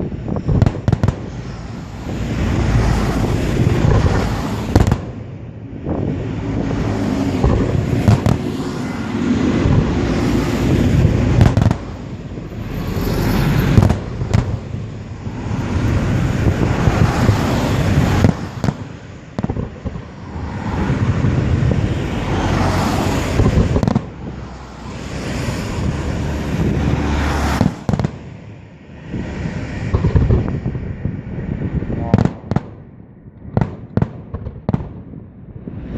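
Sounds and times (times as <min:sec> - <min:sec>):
fireworks crackling and popping: 0:00.0 - 0:05.3, 0:05.9 - 0:35.9
loud firework bangs: 0:00.0 - 0:24.4, 0:25.0 - 0:30.9, 0:32.0 - 0:35.9.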